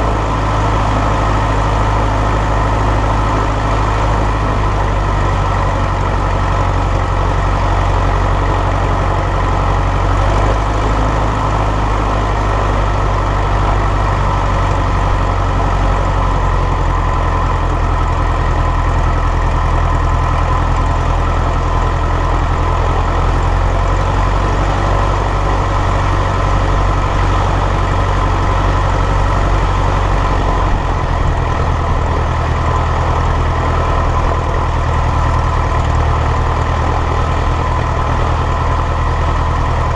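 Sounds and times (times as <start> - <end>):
propeller plane engine idling: 0.0 - 39.9.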